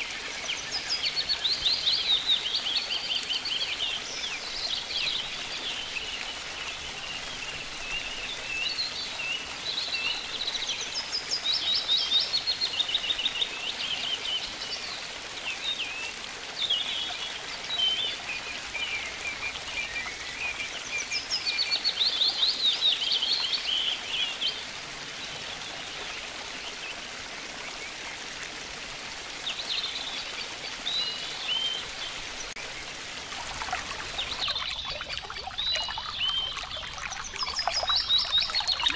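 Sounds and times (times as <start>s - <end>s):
songbirds singing with trills: 0.0s - 27.0s, 29.4s - 38.9s
water running over cascades: 0.0s - 38.9s.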